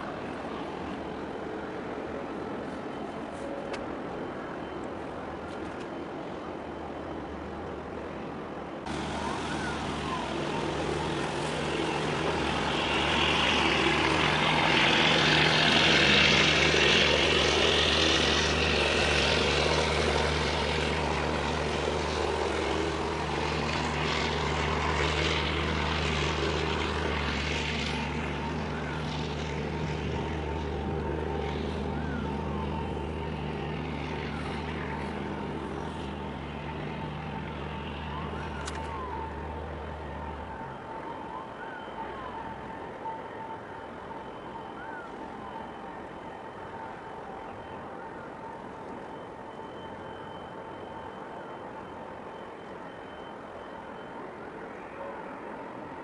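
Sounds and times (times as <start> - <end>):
ship engine hum: 0.0 - 56.0.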